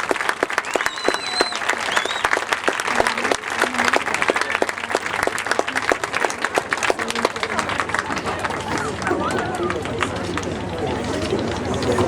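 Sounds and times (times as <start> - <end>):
crowd applauding: 0.0 - 12.0
high-pitched cheering: 0.0 - 12.0.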